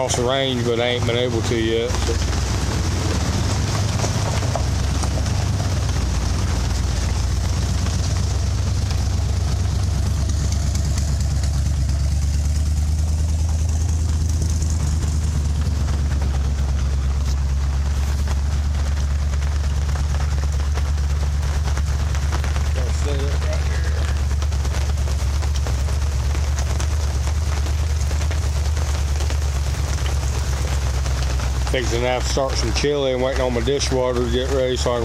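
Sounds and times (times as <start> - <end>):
low engine-like rumble: 0.0 - 35.0
rain falling: 0.0 - 35.0.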